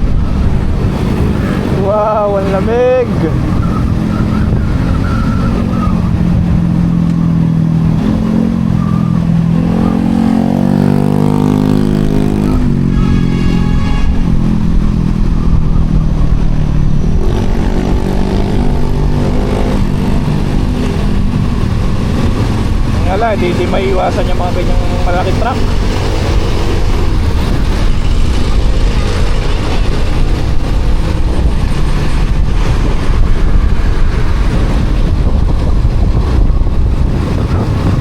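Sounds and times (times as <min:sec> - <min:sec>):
motorcycle engine accelerating: 0:00.0 - 0:38.0
wind noise on microphone: 0:00.0 - 0:38.0.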